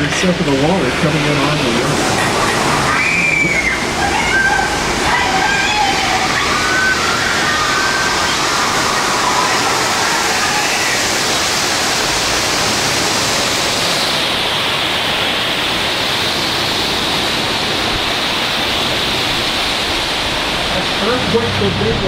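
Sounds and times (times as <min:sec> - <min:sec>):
water pouring and cascading: 0:00.0 - 0:22.0.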